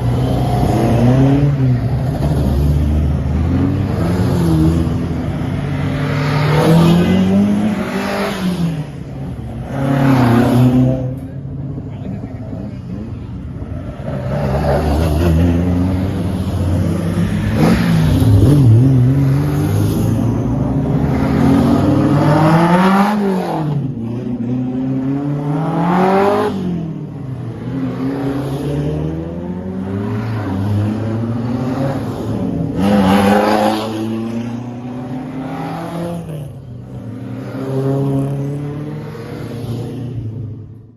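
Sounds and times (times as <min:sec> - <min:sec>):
racing car engines revving: 0:00.0 - 0:40.9.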